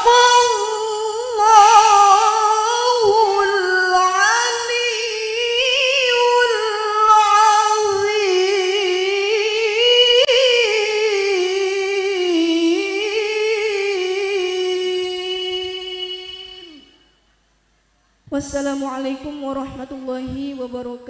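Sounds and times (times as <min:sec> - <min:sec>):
woman reciting melodically: 0:00.0 - 0:17.0, 0:18.3 - 0:21.0.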